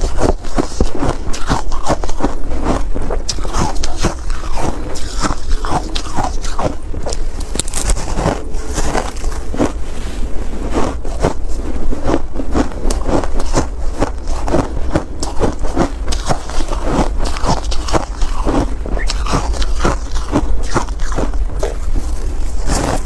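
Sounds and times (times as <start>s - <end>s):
crunching and chewing shaved ice: 0.0s - 23.0s
low steady rumble: 0.0s - 23.0s.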